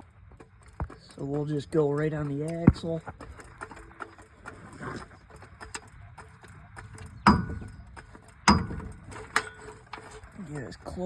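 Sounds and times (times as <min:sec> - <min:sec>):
metal jack clicking and rattling: 0:00.0 - 0:11.0
sharp metallic clanks: 0:00.0 - 0:11.0.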